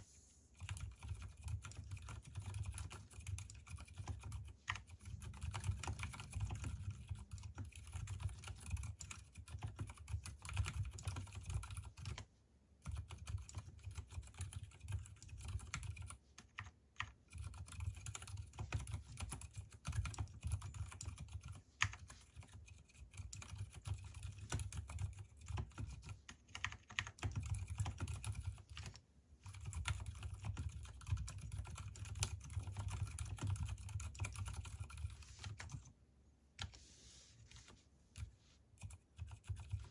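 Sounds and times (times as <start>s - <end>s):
typing on mechanical keyboard: 0.6s - 36.0s, 38.2s - 39.9s.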